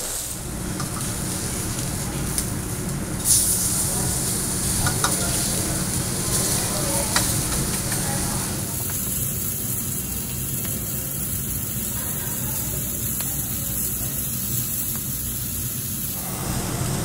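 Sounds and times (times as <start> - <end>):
meat sizzling on grill: 0.0 - 17.0.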